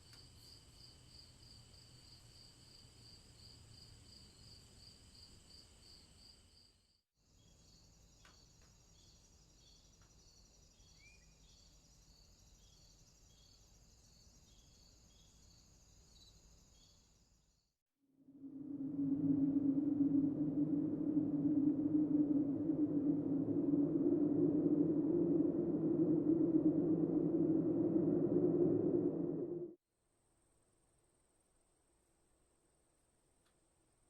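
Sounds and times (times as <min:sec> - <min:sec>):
crickets chirping: 0:00.0 - 0:06.7, 0:07.4 - 0:17.3, 0:18.3 - 0:29.7.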